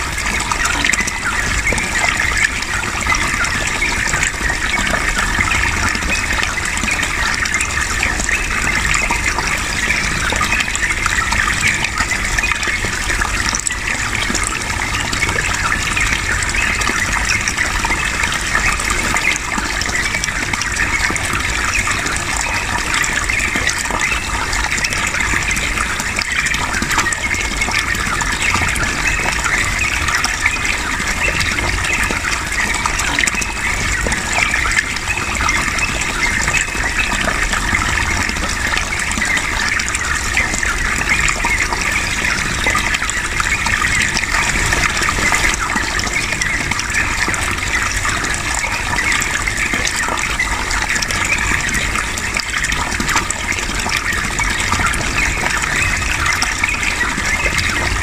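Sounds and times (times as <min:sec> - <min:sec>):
running water gushing: 0:00.0 - 0:58.0.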